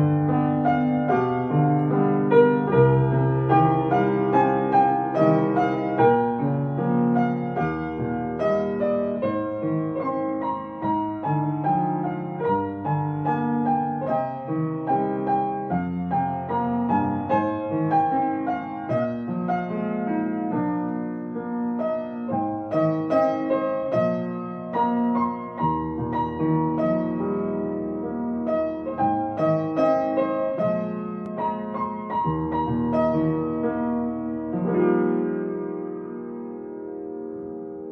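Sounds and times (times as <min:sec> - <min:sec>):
gentle piano music: 0:00.0 - 0:37.9.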